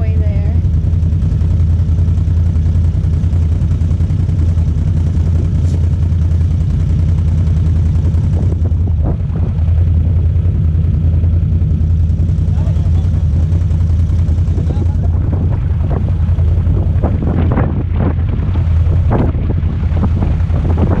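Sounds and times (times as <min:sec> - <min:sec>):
utility vehicle engine drone: 0:00.0 - 0:21.0.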